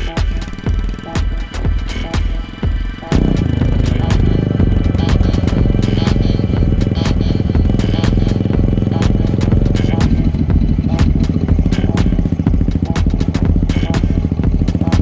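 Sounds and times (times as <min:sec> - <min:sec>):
background music with sharp beat: 0:00.0 - 0:15.0
motorcycle engine running: 0:00.0 - 0:15.0.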